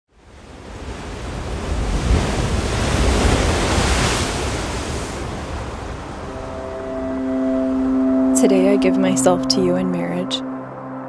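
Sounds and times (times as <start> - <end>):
rushing surf-like noise: 0.2 - 9.2.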